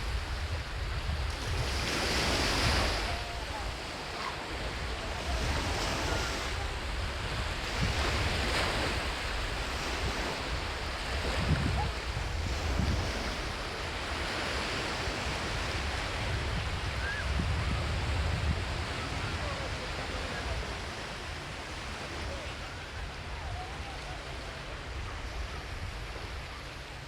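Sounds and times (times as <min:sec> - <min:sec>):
waves washing onto beach: 0:00.0 - 0:27.0
wind rumbling on microphone: 0:00.0 - 0:27.0.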